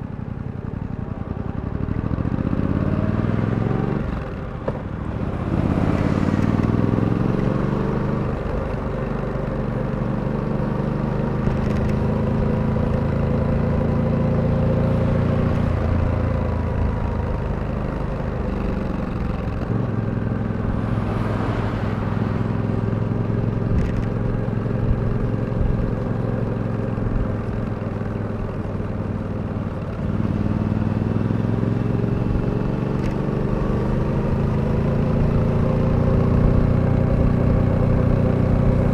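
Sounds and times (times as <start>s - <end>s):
motorcycle engine accelerating: 0.3s - 38.9s.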